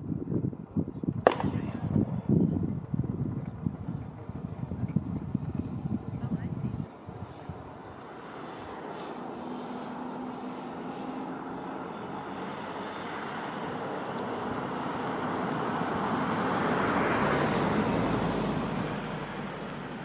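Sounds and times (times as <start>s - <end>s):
passing vehicle engine and road noise: 0.0s - 20.0s.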